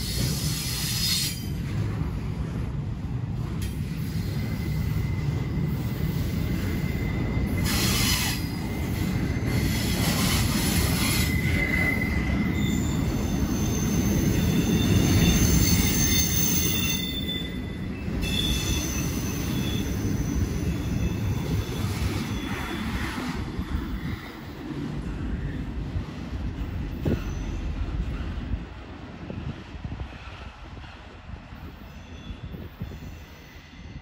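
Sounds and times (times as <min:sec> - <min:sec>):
wheels squealing against rails: 0:00.0 - 0:01.8, 0:03.6 - 0:24.6, 0:26.6 - 0:28.5, 0:31.5 - 0:34.0
freight train rumbling past: 0:00.0 - 0:34.0.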